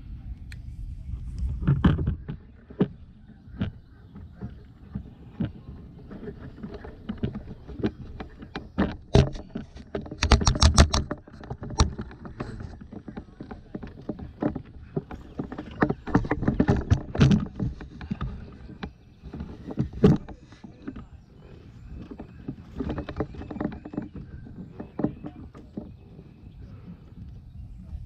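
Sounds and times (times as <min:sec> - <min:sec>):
gear knocking and rattling: 0:01.6 - 0:26.9.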